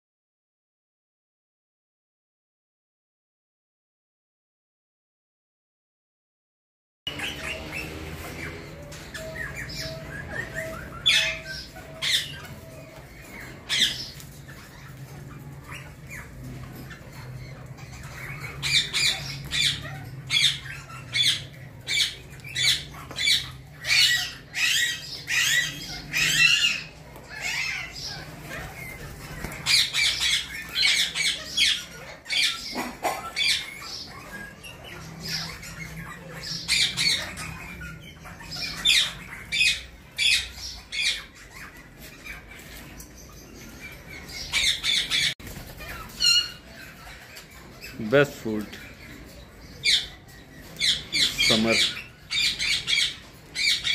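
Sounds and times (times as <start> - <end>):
parakeets squawking: 7.1 - 53.9.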